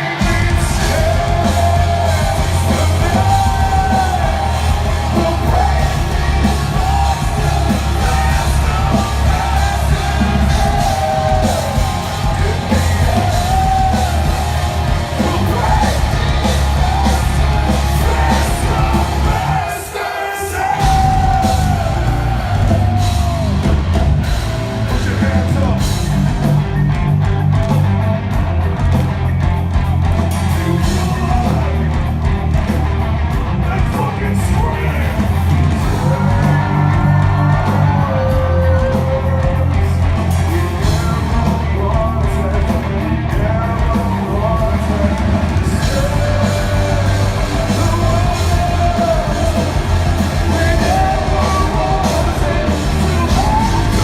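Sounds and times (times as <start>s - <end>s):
person singing and yelling: 0.0s - 27.0s, 33.6s - 54.0s
heavy rock song: 0.0s - 54.0s.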